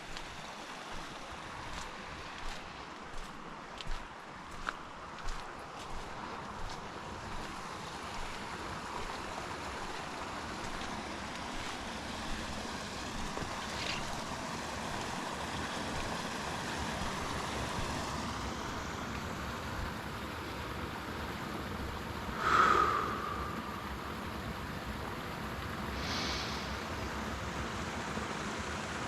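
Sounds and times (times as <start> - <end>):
steady forest rushing noise: 0.0 - 29.0.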